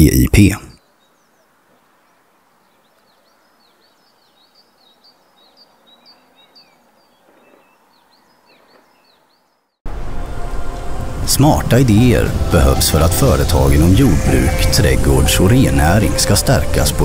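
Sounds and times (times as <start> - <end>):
soft outdoor hiss: 0.0 - 17.0.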